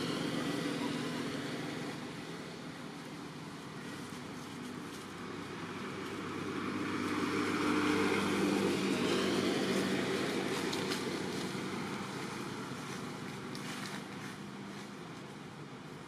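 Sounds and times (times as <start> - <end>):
motor vehicle passing: 0.0 - 15.3.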